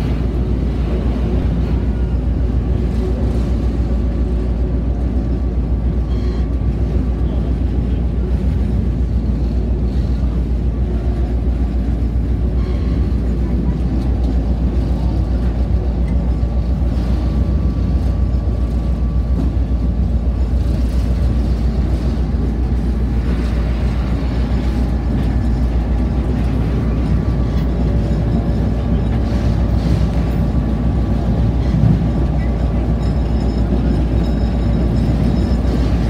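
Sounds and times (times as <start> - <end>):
locomotive engine and wheels rumbling: 0.0 - 36.0.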